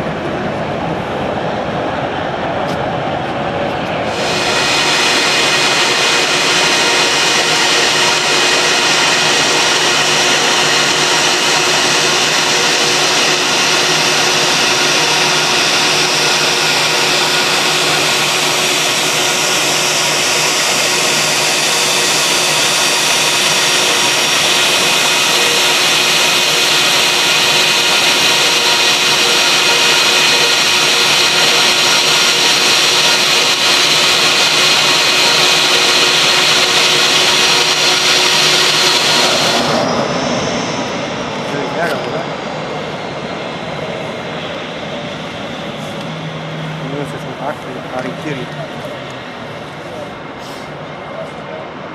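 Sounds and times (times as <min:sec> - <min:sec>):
jet engines roaring and whining: 0:00.0 - 0:51.9.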